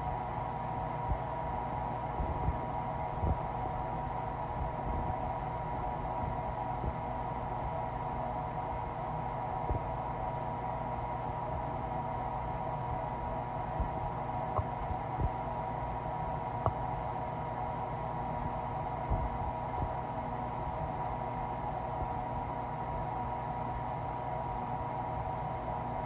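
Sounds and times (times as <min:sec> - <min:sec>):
steady hiss and hum: 0:00.0 - 0:26.0.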